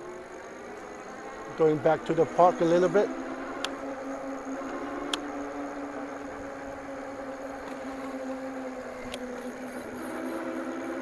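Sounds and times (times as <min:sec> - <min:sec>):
electric bike motor whining: 0:00.0 - 0:11.0.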